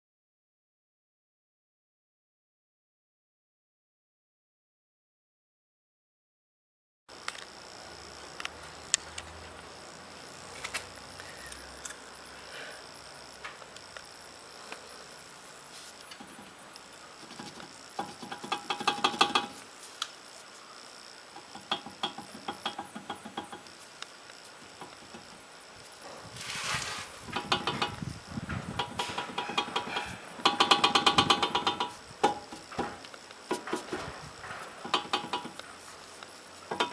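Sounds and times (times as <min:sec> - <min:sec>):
steady hiss: 0:07.1 - 0:36.9.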